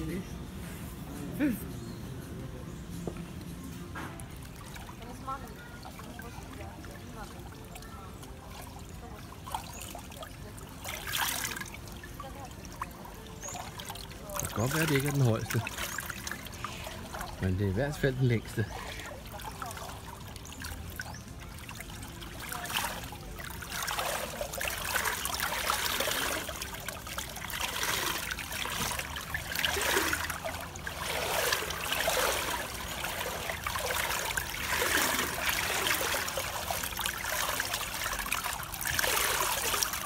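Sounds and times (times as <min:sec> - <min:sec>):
pool water trickling and lapping: 0:00.0 - 0:40.0.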